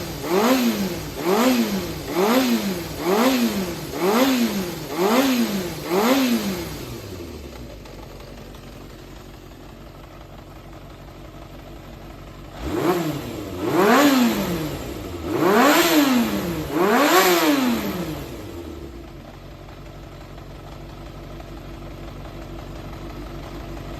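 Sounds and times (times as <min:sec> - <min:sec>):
motorcycle engine idling and revving: 0:00.0 - 0:23.9.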